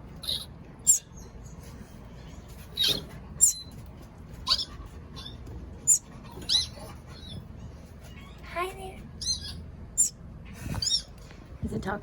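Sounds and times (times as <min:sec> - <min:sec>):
baby bird chirping: 0:00.1 - 0:01.6, 0:02.2 - 0:11.2.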